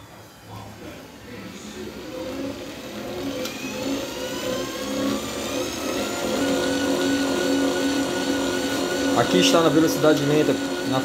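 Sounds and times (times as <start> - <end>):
dough mixer motor whine: 0.0 - 11.0
rhythmic churning of dough: 1.3 - 11.0.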